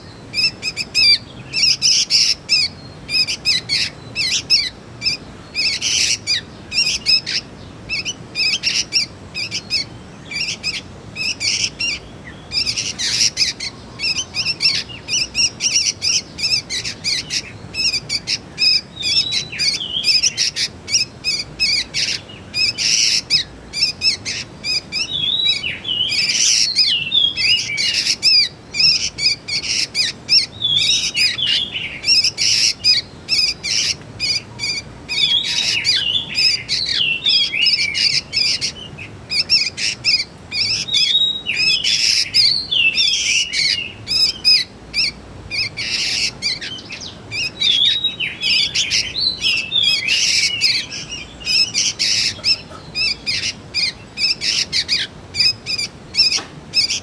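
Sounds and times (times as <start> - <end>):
young birds chirping and whistling: 0.0 - 57.0.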